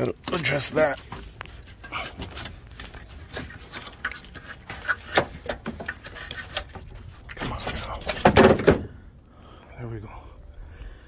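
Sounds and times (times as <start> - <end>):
hands handling hoses and wires: 0.0 - 9.0.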